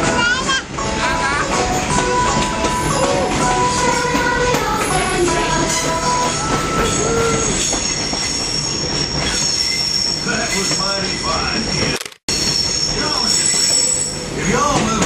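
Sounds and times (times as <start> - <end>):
train cars rumbling: 0.0 - 15.0
high wheel squeal: 2.2 - 14.6.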